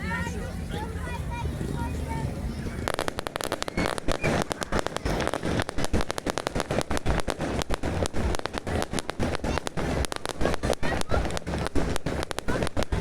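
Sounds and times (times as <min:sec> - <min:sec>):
fireworks banging and crackling: 0:02.6 - 0:13.0.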